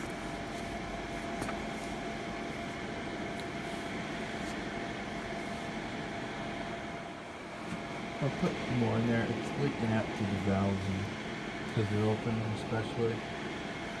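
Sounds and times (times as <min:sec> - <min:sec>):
faint constant hum: 0:00.0 - 0:14.0.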